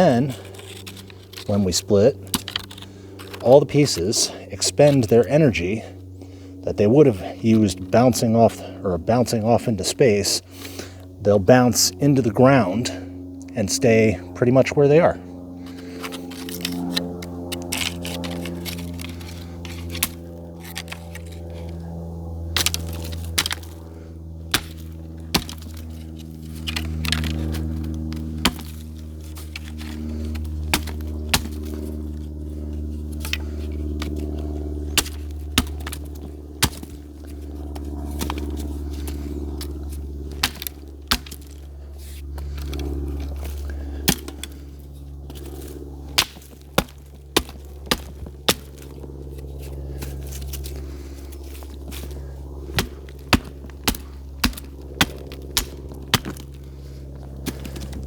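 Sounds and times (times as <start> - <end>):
hatchet splitting wood: 0.0 - 5.3, 15.6 - 58.0
low hum: 0.0 - 58.0.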